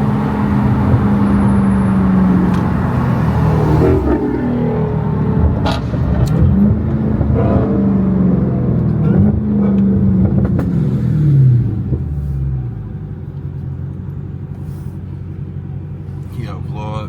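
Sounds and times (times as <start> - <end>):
car engine revving: 0.0 - 16.3.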